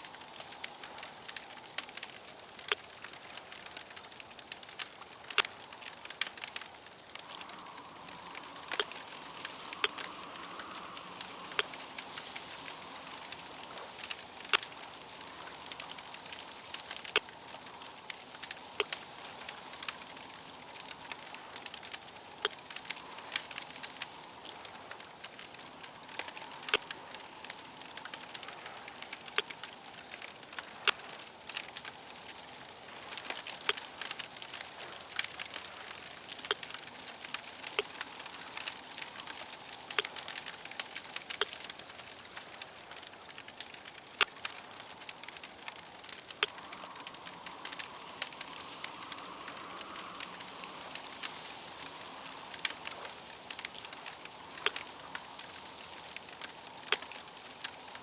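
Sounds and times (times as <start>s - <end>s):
fire crackles and pops: 0.0s - 58.0s
fire hissing: 0.0s - 58.0s.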